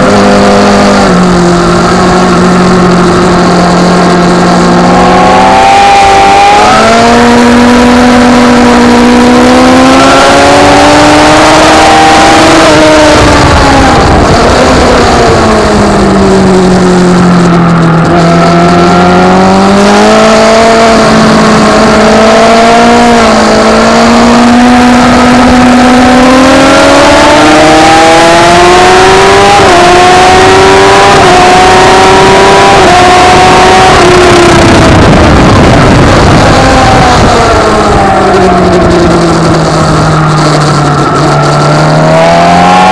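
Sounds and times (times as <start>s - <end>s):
motorcycle engine at race pace: 0.0s - 42.9s.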